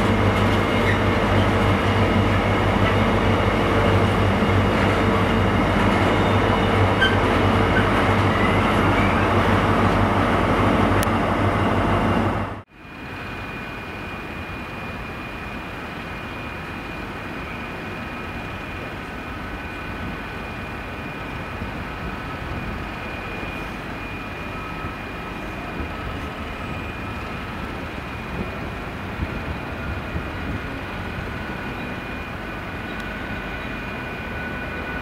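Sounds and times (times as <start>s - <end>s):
diesel locomotive engine rumble: 0.0s - 35.0s.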